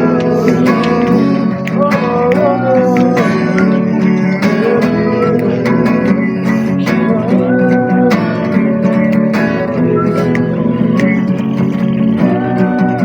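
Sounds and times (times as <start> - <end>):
guitar: 0.0 - 13.0
voices chanting: 0.0 - 13.0.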